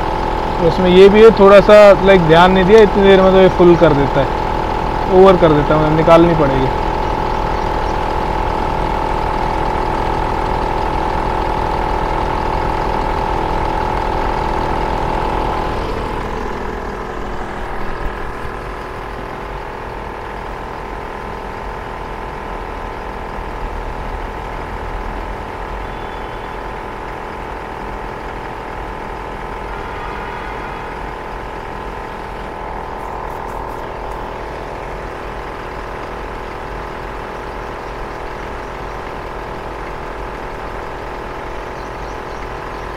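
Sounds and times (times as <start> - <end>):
electric air compressor running: 0.0 - 42.9.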